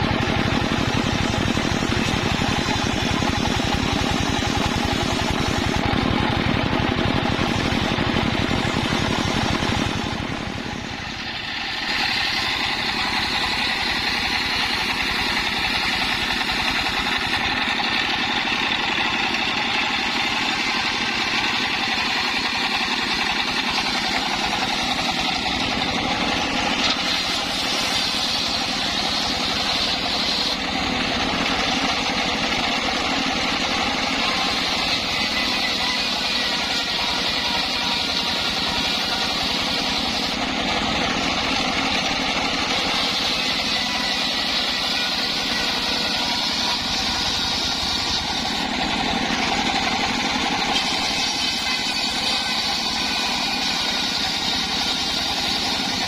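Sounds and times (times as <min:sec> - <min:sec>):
saw blade cutting wood whine: 0:00.0 - 0:56.0
sawmill engine running: 0:00.0 - 0:56.0.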